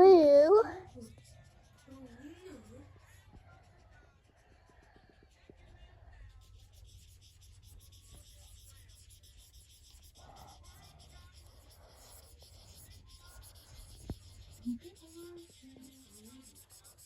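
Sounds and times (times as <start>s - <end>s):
marker scratching on paper: 0.0s - 17.0s.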